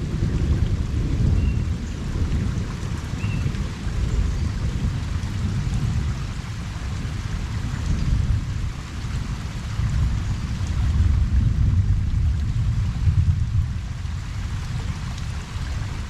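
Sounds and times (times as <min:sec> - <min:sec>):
distant thunder rumble: 0:00.0 - 0:16.0
rain falling on a pond: 0:00.0 - 0:16.0.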